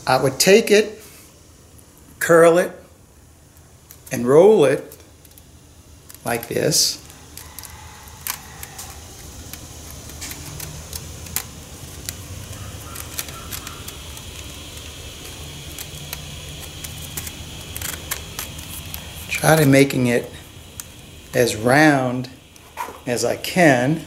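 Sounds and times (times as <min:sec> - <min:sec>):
wire mesh clicking and crinkling: 0:03.4 - 0:23.6.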